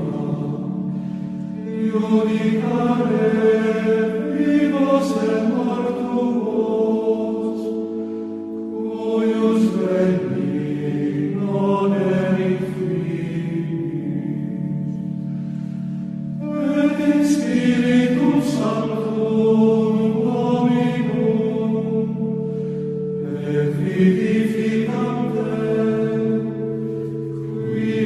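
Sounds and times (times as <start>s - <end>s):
choir singing a hymn: 0.0s - 28.0s
sustained accompaniment: 0.0s - 28.0s.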